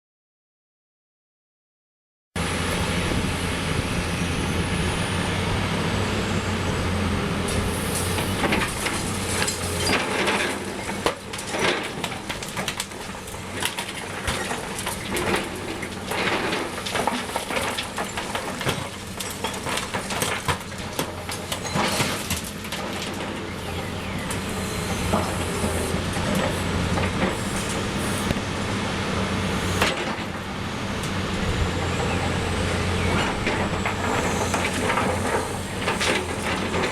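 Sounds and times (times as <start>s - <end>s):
excavator diesel engine running: 2.4s - 36.9s.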